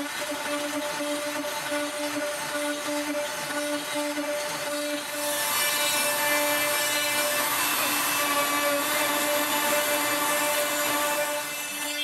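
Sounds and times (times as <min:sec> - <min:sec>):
router spindle whine: 0:00.0 - 0:12.0.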